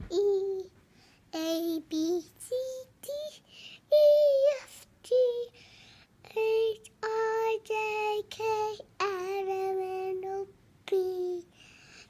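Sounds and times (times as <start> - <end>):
child singing: 0.0 - 5.6, 6.2 - 11.6.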